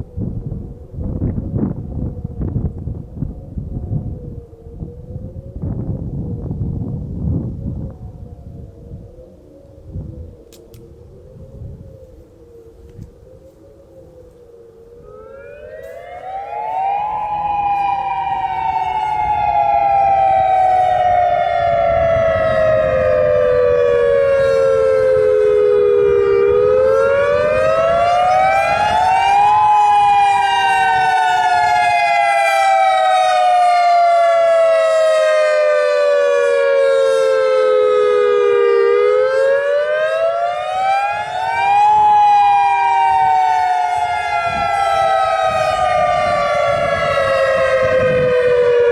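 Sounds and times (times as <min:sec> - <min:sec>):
warning siren wailing: 0:00.0 - 0:48.9.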